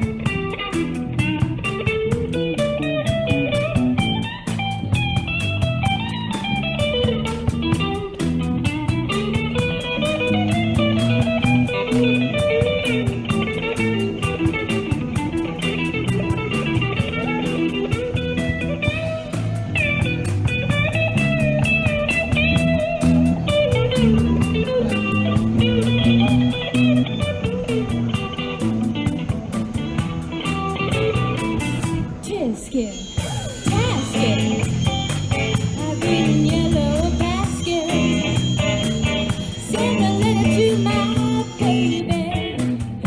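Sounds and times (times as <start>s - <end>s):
blues electric guitar music: 0.0s - 43.0s.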